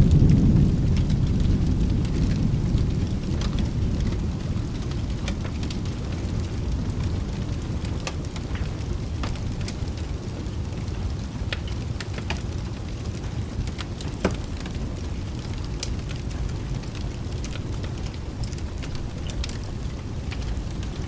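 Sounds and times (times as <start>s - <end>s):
steady rain: 0.0s - 21.0s
thunder rumble: 0.0s - 21.0s
wood fire crackling: 0.0s - 21.0s.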